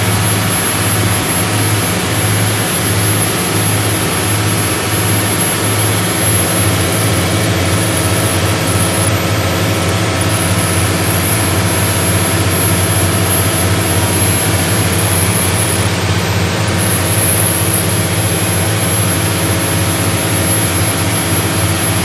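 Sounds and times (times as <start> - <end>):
marine diesel engines running: 0.0 - 22.0
steady rushing noise: 0.0 - 22.0.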